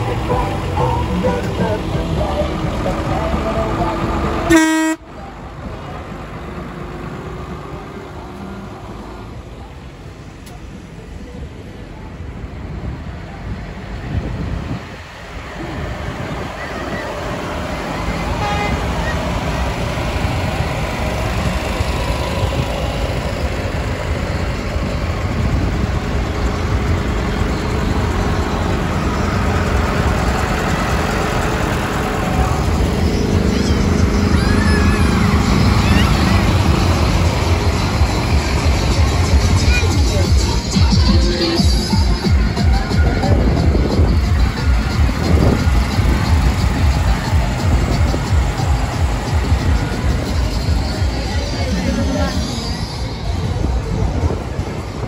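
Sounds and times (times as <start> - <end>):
tractor diesel engine passing: 0.0 - 55.0.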